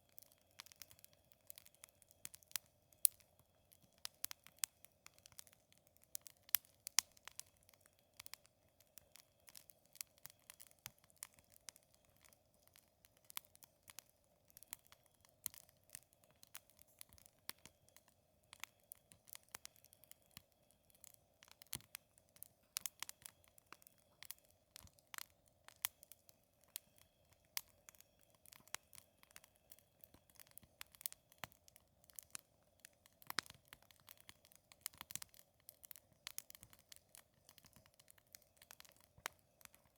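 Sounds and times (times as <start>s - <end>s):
campfire crackling: 0.0s - 39.9s
faint steady hum: 0.0s - 39.9s.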